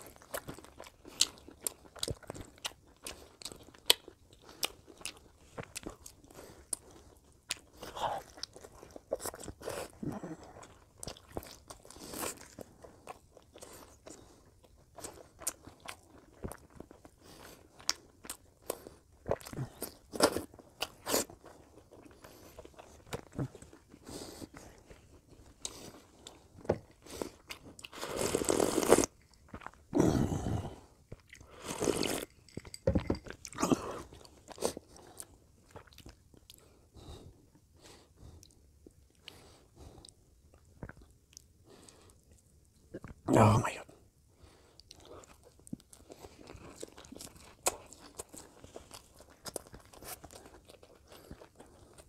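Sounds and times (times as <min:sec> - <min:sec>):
chewing and crunching: 0:00.0 - 0:43.2, 0:44.4 - 0:52.0.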